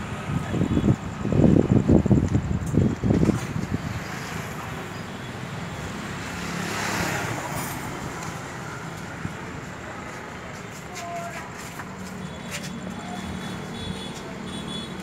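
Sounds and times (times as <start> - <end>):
traffic noise with engine hum: 0.0 - 15.0.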